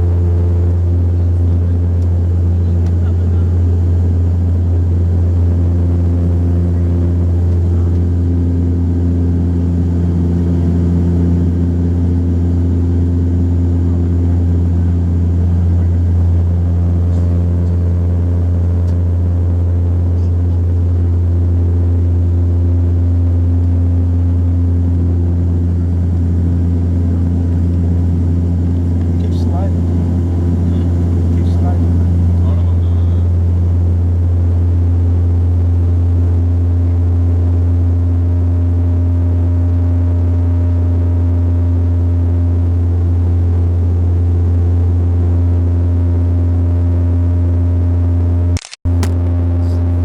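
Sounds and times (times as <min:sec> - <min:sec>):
turboprop propeller drone in cabin: 0:00.0 - 0:50.0.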